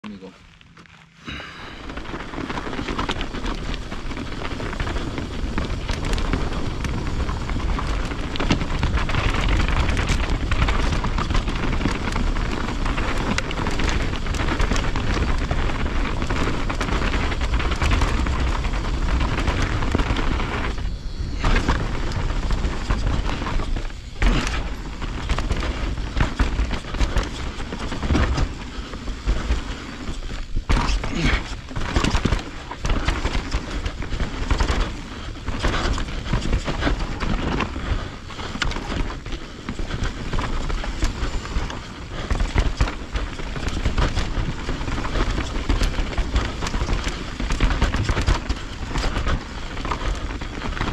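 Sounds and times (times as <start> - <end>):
bike knocking and rattling: 0.1 - 50.9
tyres rolling over dirt and rock: 0.1 - 50.9
wind rushing over microphone: 1.3 - 50.9.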